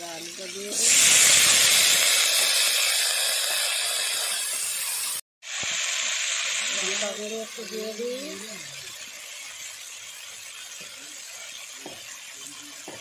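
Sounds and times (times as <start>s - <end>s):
potatoes sizzling in hot oil: 0.0s - 13.0s.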